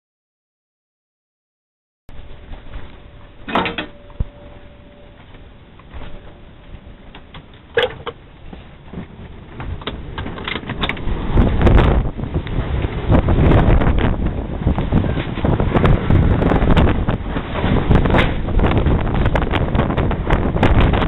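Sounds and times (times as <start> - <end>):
storm wind gusting: 2.1 - 21.0.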